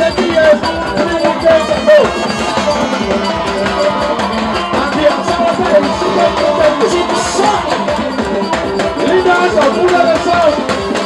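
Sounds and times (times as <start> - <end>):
bass and snare drums beat: 0.0 - 11.0
marching band trumpets: 0.0 - 11.0.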